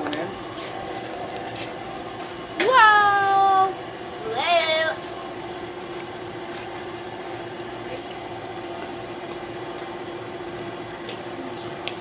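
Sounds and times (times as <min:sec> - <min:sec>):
constant hum: 0:00.0 - 0:12.0.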